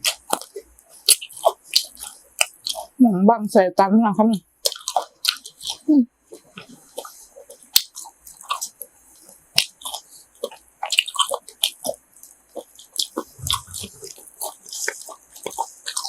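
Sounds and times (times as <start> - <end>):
person chewing food: 0.0 - 3.0, 4.6 - 16.0
teeth clicks and mouth smacks: 0.0 - 3.0, 4.6 - 16.0.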